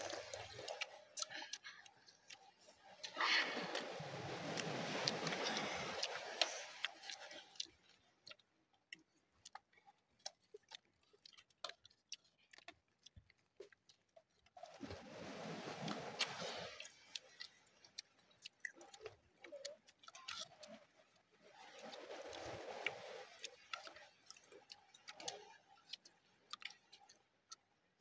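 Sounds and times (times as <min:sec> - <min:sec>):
chewing: 0:00.0 - 0:28.0.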